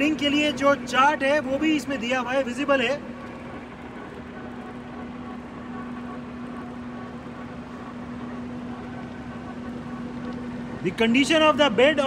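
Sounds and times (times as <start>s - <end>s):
lathe running hum: 0.0s - 12.0s.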